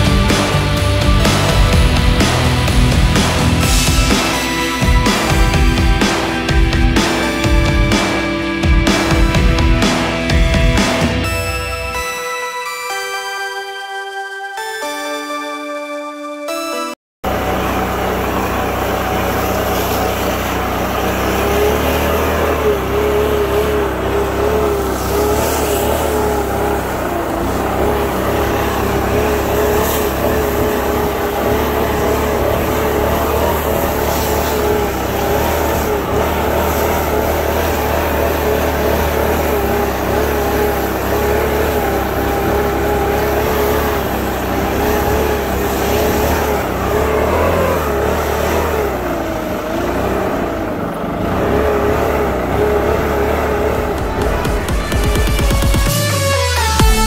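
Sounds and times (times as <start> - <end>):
engine running steadily: 0.0 - 11.3, 17.2 - 57.0.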